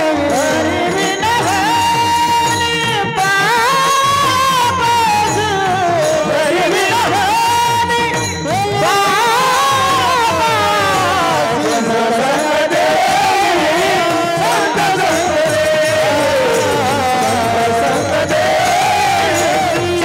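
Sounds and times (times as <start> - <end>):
drum strokes: 0.0 - 20.0
person singing ornamented notes: 0.0 - 20.0.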